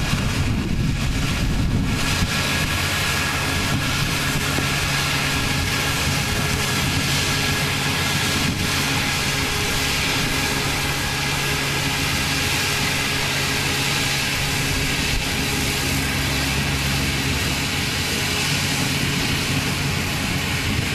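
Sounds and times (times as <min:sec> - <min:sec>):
combine harvester drone: 0:00.0 - 0:20.9.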